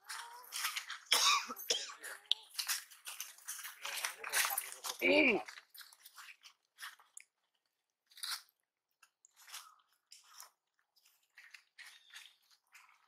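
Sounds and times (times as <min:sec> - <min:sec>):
monkey chewing and crunching food: 0:01.9 - 0:13.0.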